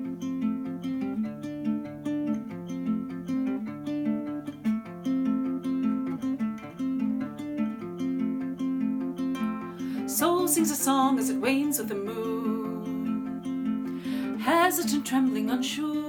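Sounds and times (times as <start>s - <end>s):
acoustic guitar plucked notes: 0.0s - 16.0s.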